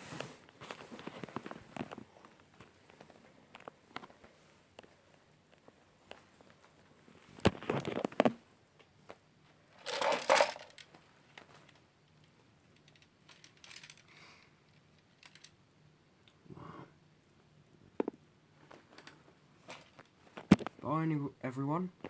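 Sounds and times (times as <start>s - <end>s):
crinkling handling noise: 0.0s - 15.6s, 18.6s - 20.9s.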